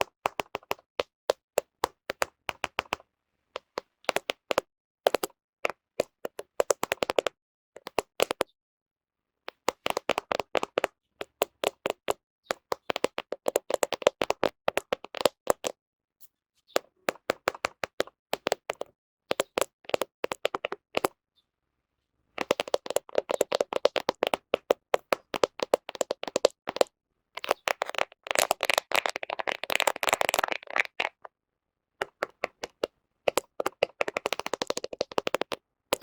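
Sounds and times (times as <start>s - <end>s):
fingernails tapping on camera: 0.0s - 3.0s, 3.6s - 8.5s, 9.5s - 15.8s, 17.1s - 21.1s, 22.4s - 31.3s, 32.0s - 36.0s.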